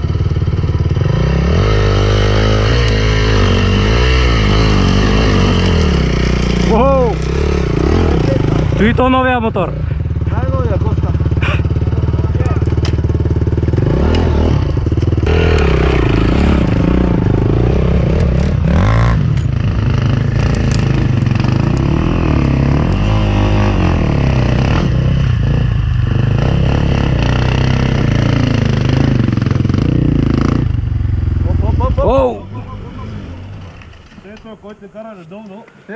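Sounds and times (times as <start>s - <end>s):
dirt bike engine revving: 0.0s - 34.8s.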